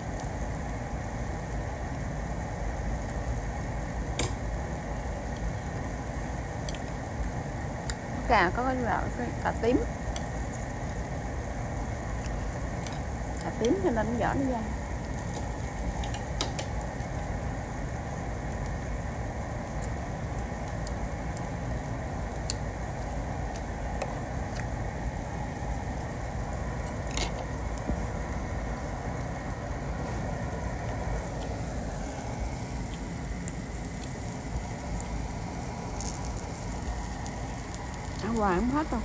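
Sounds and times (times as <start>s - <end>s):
food sizzling on a grill: 0.0s - 39.0s
steady low rumble: 0.0s - 39.0s.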